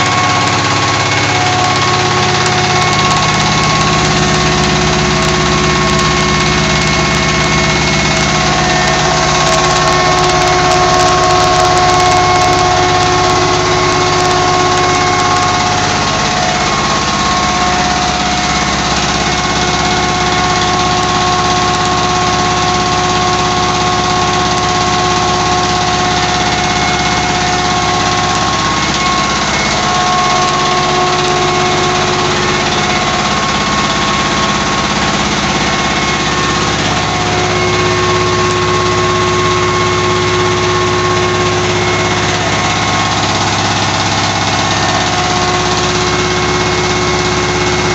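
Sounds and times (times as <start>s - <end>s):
flour mill grinding: 0.0s - 40.6s
diesel engine running: 0.0s - 47.9s.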